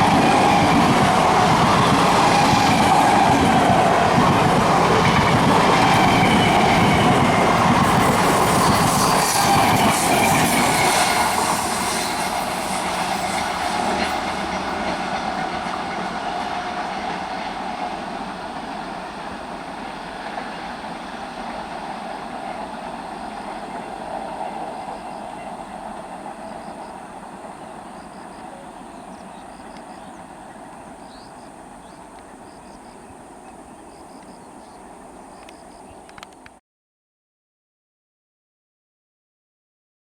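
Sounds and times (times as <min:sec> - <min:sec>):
train wheels on rails: 0:00.0 - 0:36.6.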